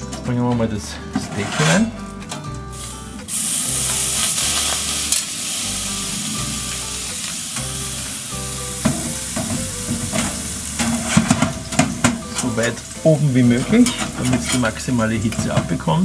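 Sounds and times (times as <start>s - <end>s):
steak sizzling: 2.6s - 16.0s.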